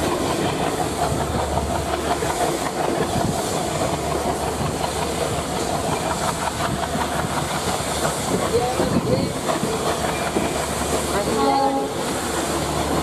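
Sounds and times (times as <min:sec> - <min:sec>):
steam hissing: 0:00.0 - 0:13.0
wheels clacking over rail joints: 0:00.0 - 0:13.0.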